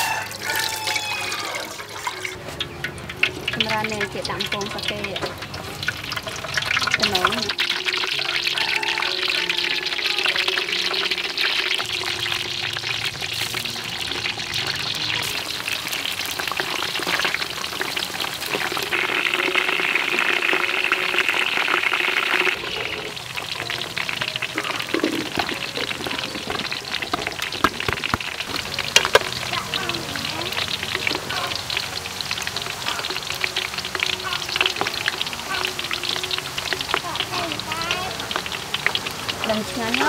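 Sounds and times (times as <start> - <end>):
deep-frying crackling sizzle: 0.0 - 40.0.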